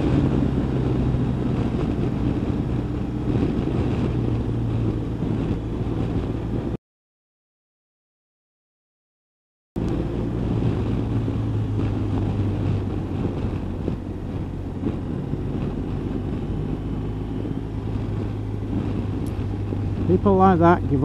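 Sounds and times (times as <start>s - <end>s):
motorcycle engine cruising: 0.0s - 6.8s, 9.8s - 21.0s
wind rush on microphone: 0.0s - 6.8s, 9.8s - 21.0s.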